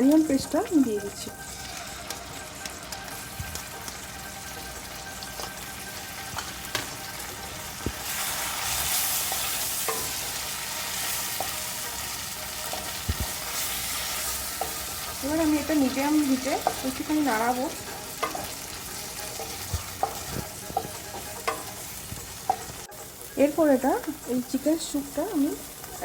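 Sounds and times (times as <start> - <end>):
onion paste sizzling in butter: 0.0 - 26.0.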